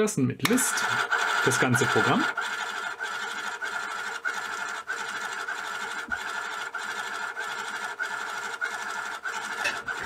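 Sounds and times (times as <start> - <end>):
thermal printer buzzing: 0.6 - 10.0.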